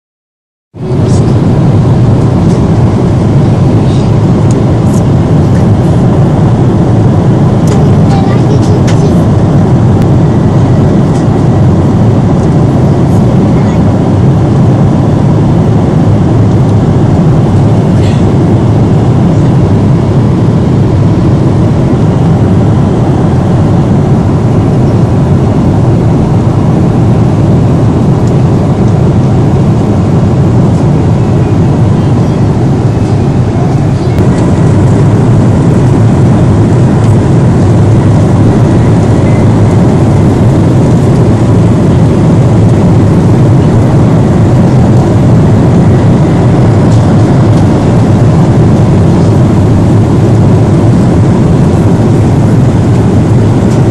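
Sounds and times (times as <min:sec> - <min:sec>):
aircraft engine and rushing air: 0:00.7 - 0:53.9
faint steady hum: 0:00.8 - 0:53.9.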